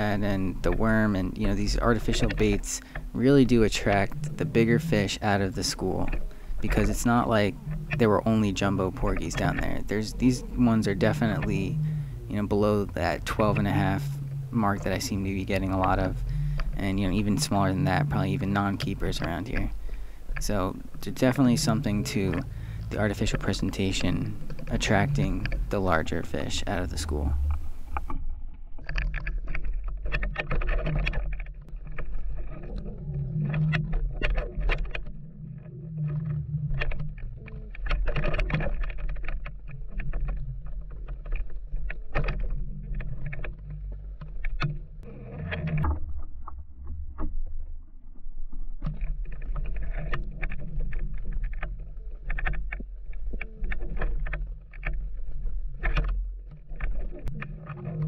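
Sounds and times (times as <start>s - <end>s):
low water rumble: 0.0s - 58.0s
water knocks and clicks: 0.0s - 58.0s.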